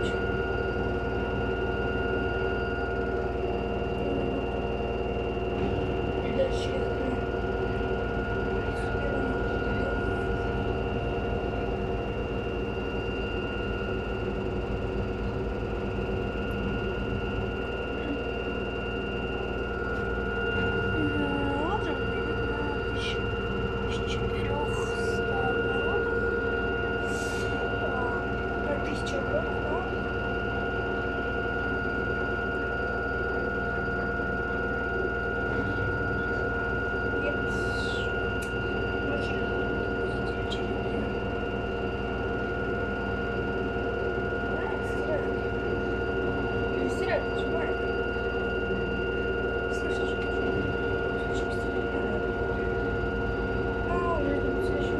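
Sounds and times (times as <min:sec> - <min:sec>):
washing machine motor whine: 0:00.0 - 0:54.9.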